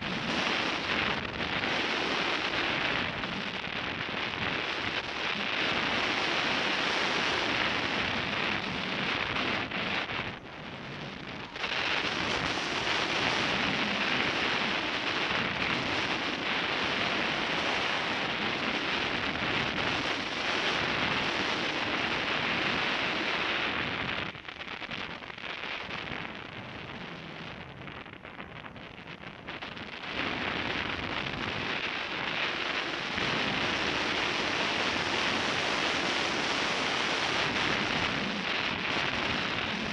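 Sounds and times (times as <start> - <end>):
wind rushing over microphone: 0.0 - 24.5, 25.9 - 39.9.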